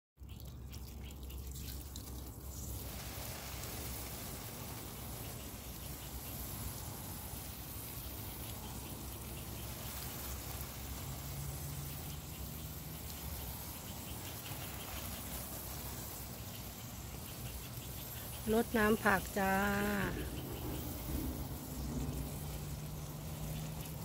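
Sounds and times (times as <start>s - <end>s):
hose spraying water on leaves: 0.2s - 24.0s.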